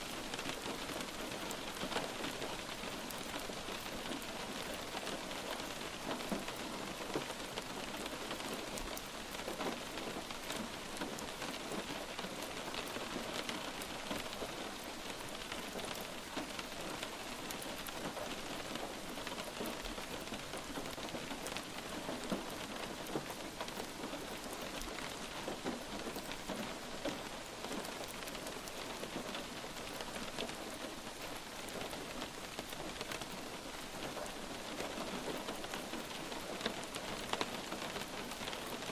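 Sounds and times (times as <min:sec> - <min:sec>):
light rain hissing: 0:00.0 - 0:38.9
small raindrop ticks: 0:00.0 - 0:38.9.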